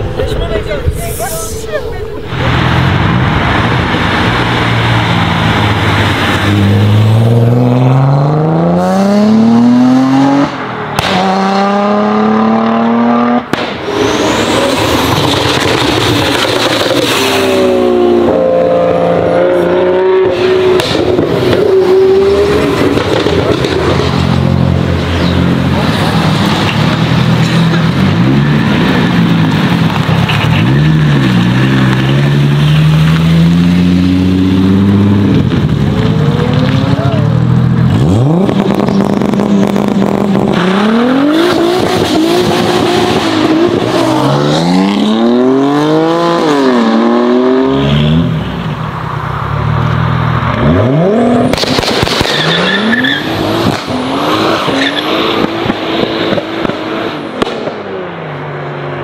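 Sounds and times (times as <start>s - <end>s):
car engine revving: 0.0s - 57.8s.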